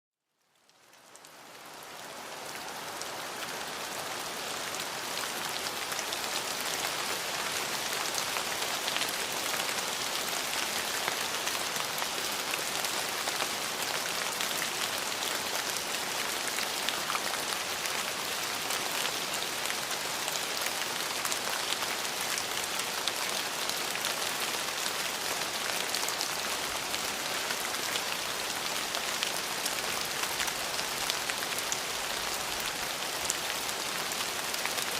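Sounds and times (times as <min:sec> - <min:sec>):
rain falling on a surface: 0:00.2 - 0:34.9.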